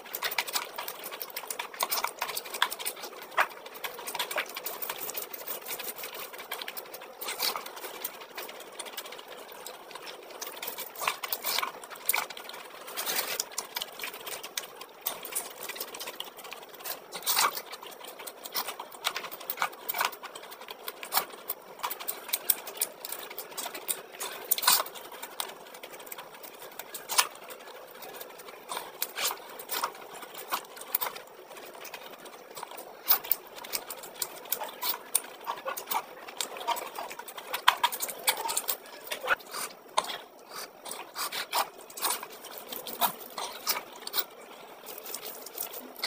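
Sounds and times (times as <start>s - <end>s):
wet chewing and lip-smacking: 0.0s - 46.0s.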